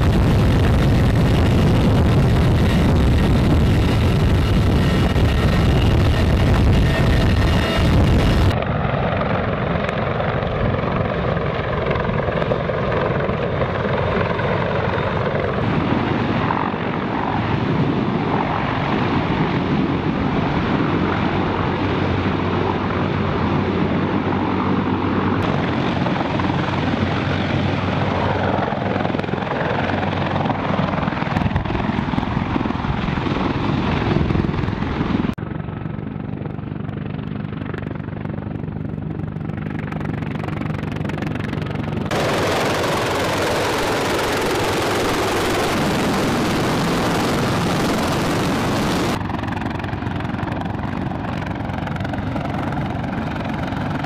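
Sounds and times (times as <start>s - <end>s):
helicopter rotors and engines: 0.0s - 54.0s.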